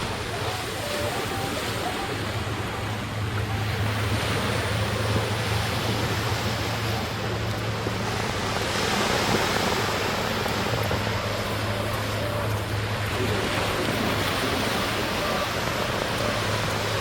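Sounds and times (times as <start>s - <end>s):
surf washing onto beach: 0.0s - 17.0s.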